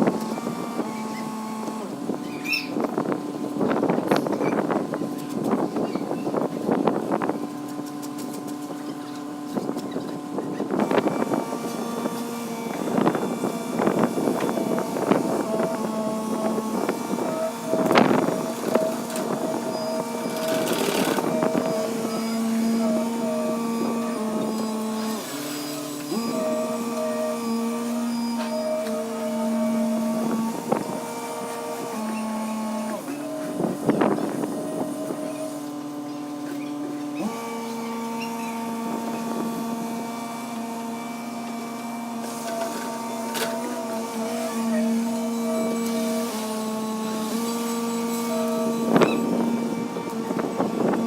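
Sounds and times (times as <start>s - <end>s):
excavator engine and hydraulics whine: 0.0s - 51.0s.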